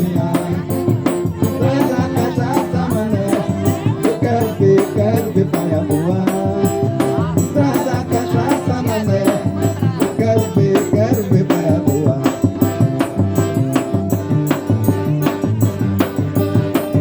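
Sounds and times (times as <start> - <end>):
person singing: 0.0 - 13.8
live band playing: 0.0 - 17.0.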